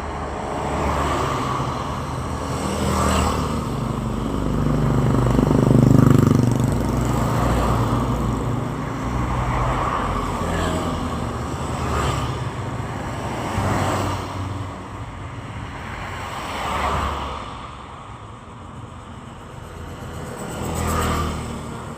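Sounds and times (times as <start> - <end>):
cars passing: 0.0 - 21.9
motorcycles passing: 0.0 - 21.9.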